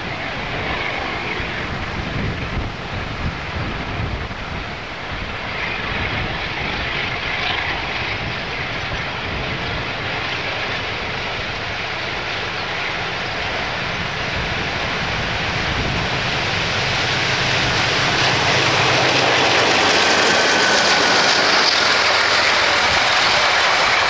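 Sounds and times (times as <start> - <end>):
train engines humming: 0.0 - 24.0
wind on microphone: 0.0 - 24.0.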